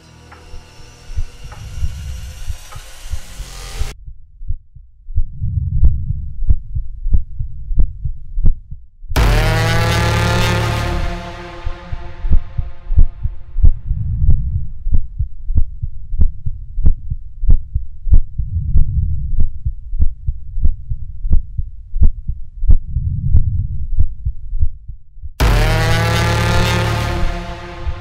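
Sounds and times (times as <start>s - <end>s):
low rumble: 0.0s - 28.0s
low pulse with sharp clicks: 0.3s - 28.0s.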